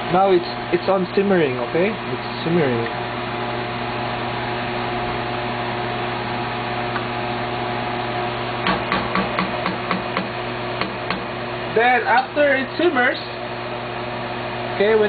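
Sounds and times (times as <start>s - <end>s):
mechanical hum with hiss: 0.0s - 15.0s.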